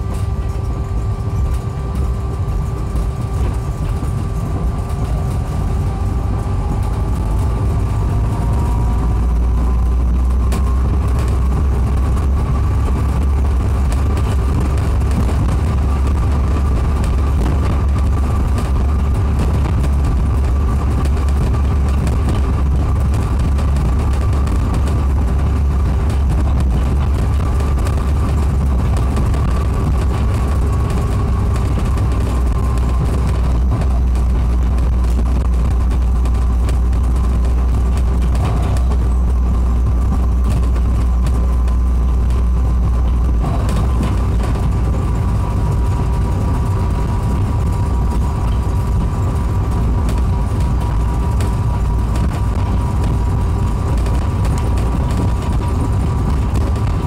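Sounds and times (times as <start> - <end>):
low running rumble: 0.0 - 57.0.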